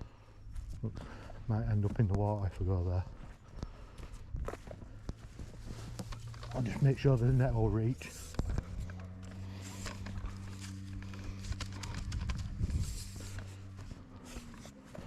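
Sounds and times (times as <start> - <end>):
steady low hum: 0.0 - 15.0
footsteps: 0.5 - 15.0.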